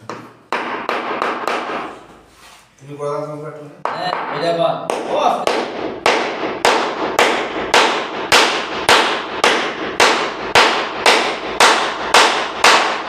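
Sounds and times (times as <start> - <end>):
mallet striking wood: 0.0 - 2.0, 3.8 - 13.0.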